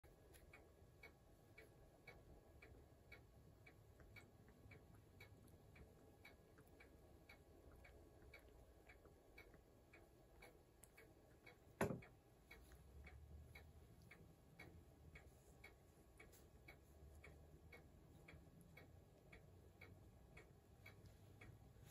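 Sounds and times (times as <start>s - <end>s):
clock ticking: 0.0s - 21.9s.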